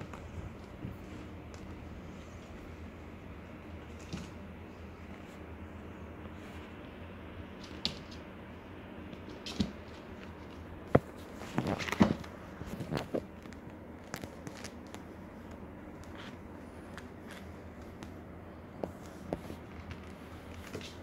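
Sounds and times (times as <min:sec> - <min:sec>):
kittens' paws rustling on cloth: 0:00.0 - 0:06.9, 0:09.0 - 0:21.0
low steady hum: 0:00.0 - 0:21.0.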